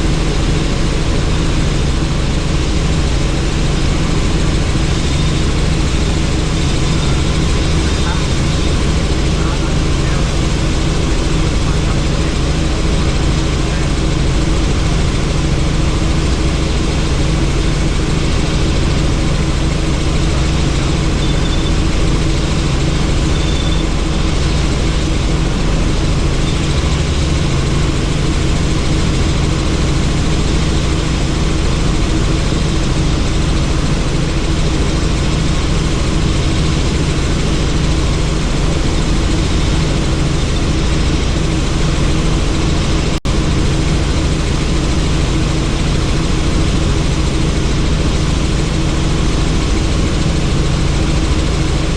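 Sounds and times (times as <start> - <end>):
helicopter rotor and engine drone: 0.0 - 51.9.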